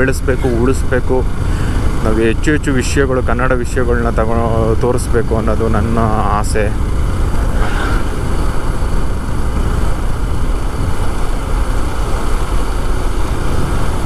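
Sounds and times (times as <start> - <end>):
motorcycle engine: 0.0 - 14.0
wind rushing over microphone: 0.0 - 14.0.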